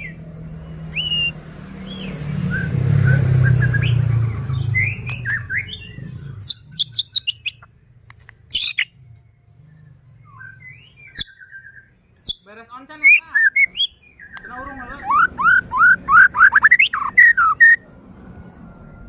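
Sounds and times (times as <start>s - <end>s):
bird singing whistled notes: 0.0s - 17.8s.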